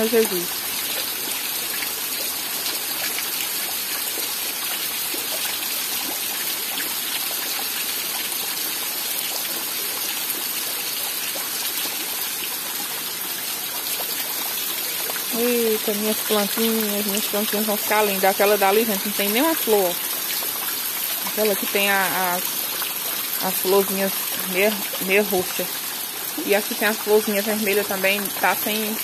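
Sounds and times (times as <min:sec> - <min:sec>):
rainwater running: 0:00.0 - 0:29.0
steady rain: 0:00.0 - 0:29.0.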